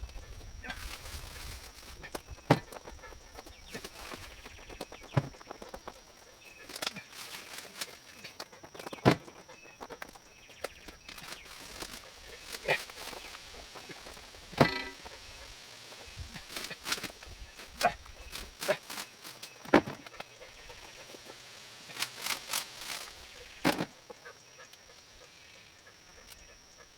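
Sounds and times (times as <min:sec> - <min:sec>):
footsteps: 0:00.1 - 0:24.1.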